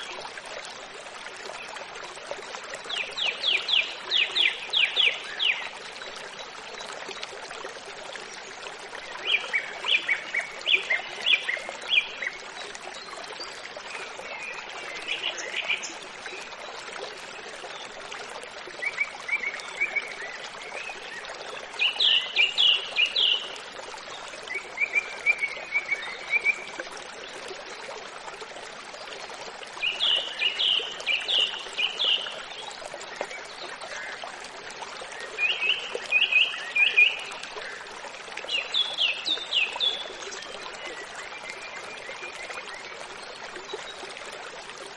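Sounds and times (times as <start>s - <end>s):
running water: 0.0s - 44.9s.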